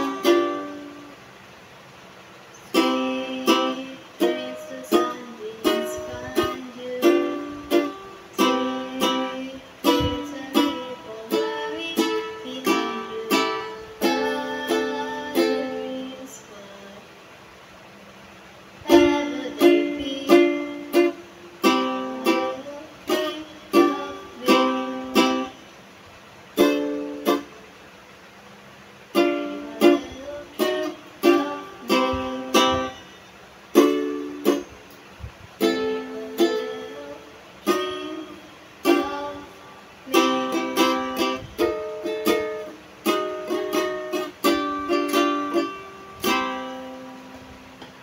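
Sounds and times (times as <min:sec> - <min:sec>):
ukulele playing chords: 0:00.0 - 0:17.1, 0:18.8 - 0:48.0.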